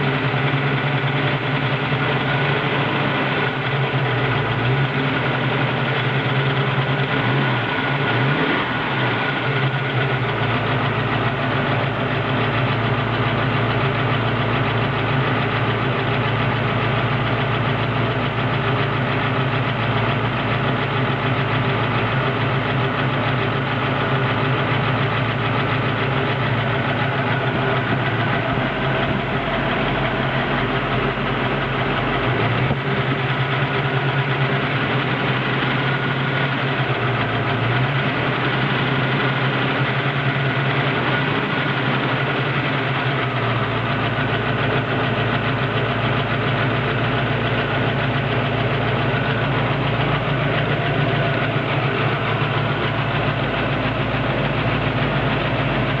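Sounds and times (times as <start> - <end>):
engine idling: 0.0 - 56.0
lifter ticking: 0.0 - 56.0.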